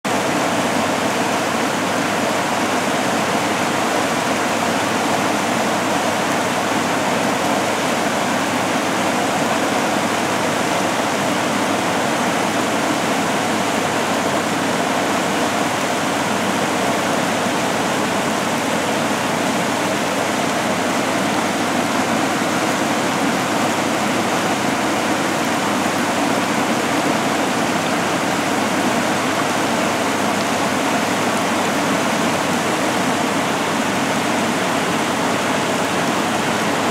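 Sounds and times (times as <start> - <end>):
rushing floodwater: 0.0 - 36.9.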